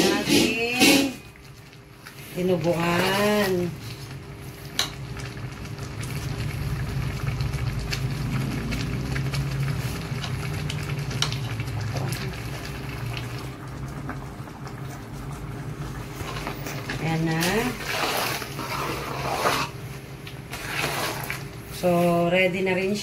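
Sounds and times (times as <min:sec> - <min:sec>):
stew bubbling at a boil: 0:00.0 - 0:22.5.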